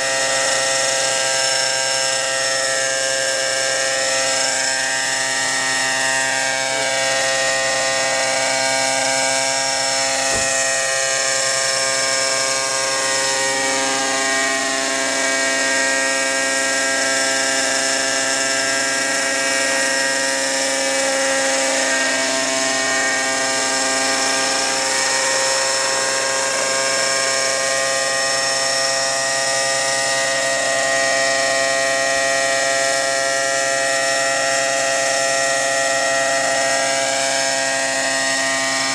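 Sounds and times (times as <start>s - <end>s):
engine idling buzz: 0.0s - 38.9s.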